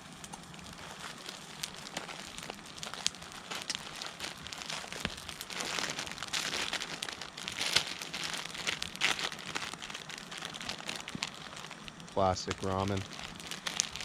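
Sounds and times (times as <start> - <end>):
plastic packet crinkling: 0.2 - 14.0.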